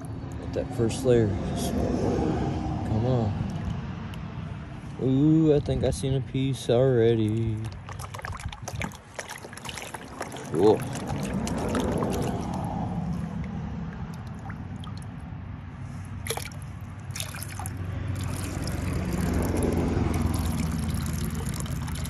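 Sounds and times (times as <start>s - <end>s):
water trickling into creek: 0.0s - 1.3s, 2.7s - 22.0s
water sloshing in a plastic pan: 2.9s - 5.0s, 5.6s - 15.2s, 15.8s - 22.0s.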